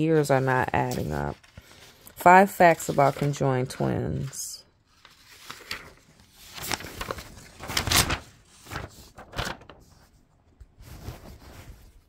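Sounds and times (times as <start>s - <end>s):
paper rustling: 0.2s - 12.0s.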